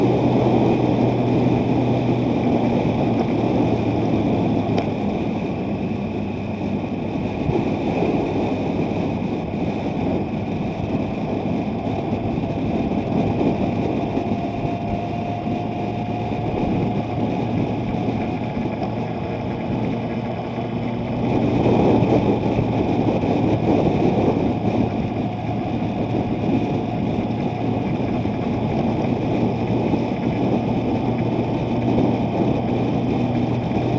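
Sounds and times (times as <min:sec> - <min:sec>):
vehicle engine and road noise: 0:00.0 - 0:33.9
wind rushing and buffeting: 0:00.0 - 0:33.9.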